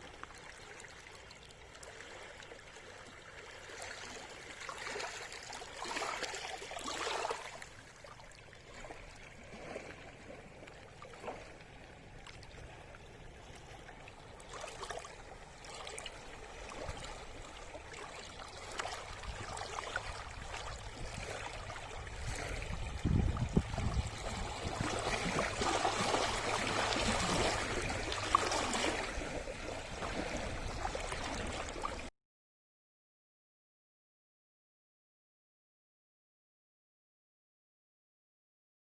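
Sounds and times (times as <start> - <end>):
waves lapping against rocks: 0.0 - 32.1.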